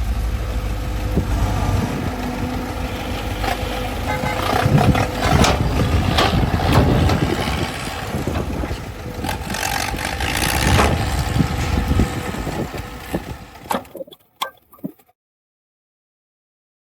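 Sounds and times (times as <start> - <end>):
heavy machinery engine running: 0.0 - 13.9
machinery clatter and knocks: 0.1 - 14.1.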